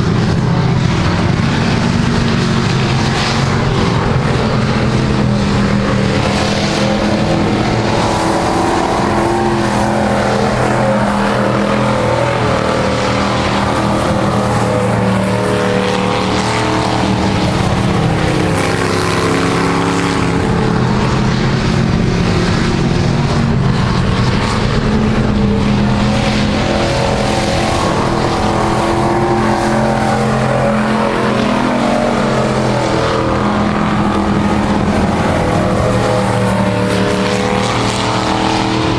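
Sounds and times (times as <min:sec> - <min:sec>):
race truck engines roaring: 0:00.0 - 0:38.9.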